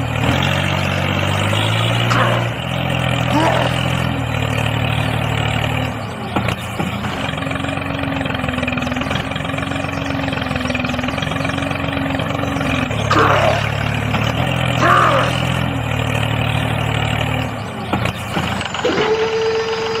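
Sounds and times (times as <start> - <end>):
tractor engine hum: 0.0 - 20.0.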